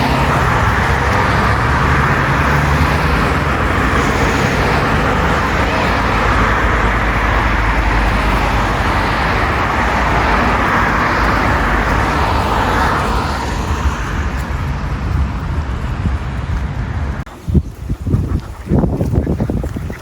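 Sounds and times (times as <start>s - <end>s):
vehicle passing by: 0.0s - 17.2s
low traffic rumble: 0.0s - 20.0s.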